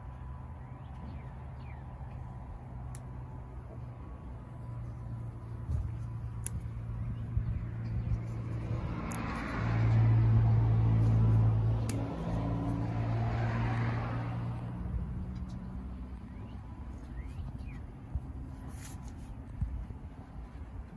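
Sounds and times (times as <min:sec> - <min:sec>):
vehicle engine humming: 0:00.0 - 0:20.9
road noise rushing: 0:01.1 - 0:20.9.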